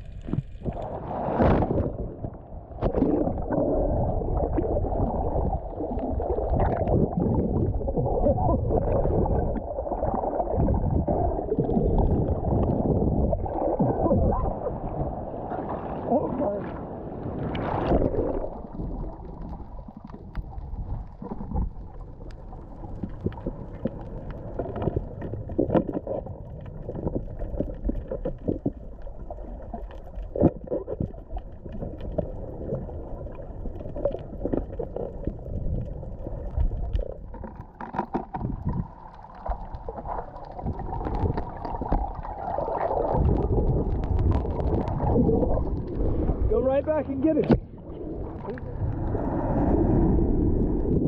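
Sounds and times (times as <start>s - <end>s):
underwater rumble of moving water: 0.0s - 51.0s.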